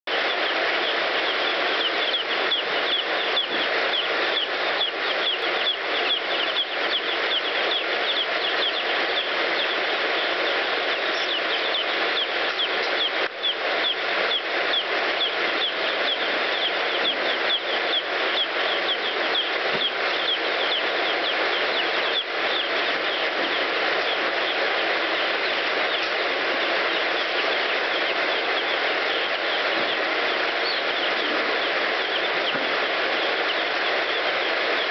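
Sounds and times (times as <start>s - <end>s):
chicks peeping: 0.1s - 34.9s.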